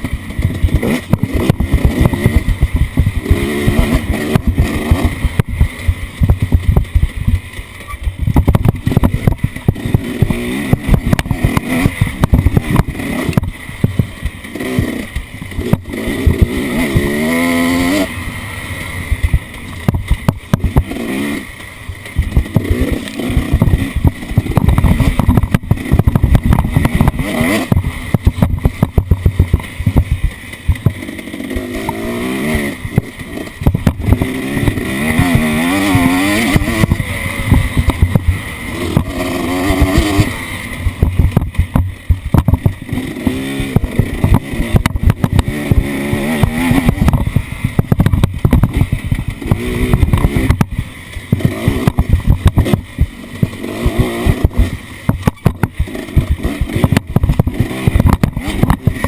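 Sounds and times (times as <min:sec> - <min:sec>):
clatter of knocks and thumps: 0:00.0 - 0:17.2, 0:19.2 - 0:21.0, 0:22.1 - 0:32.1, 0:32.9 - 0:59.0
vehicle engine revving: 0:00.0 - 0:59.0.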